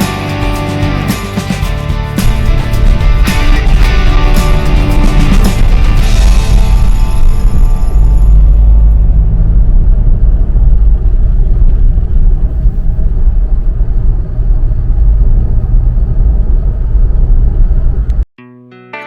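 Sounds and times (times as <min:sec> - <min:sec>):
vehicle driving road rumble: 0:00.0 - 0:18.3.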